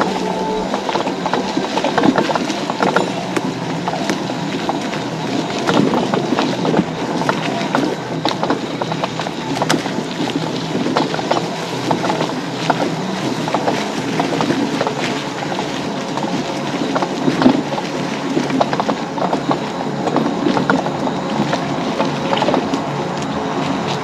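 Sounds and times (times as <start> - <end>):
electric scooter motor hum: 0.0 - 24.0
tyres crackling over twigs: 0.0 - 24.0.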